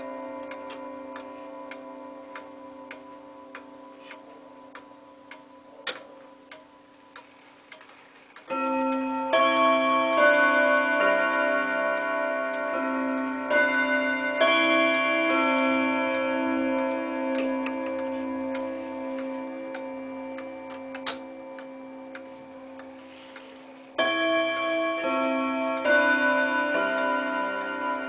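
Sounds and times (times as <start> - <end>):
clock chime notes: 0.0 - 7.3, 8.4 - 28.0
wall clock ticking: 0.0 - 28.0.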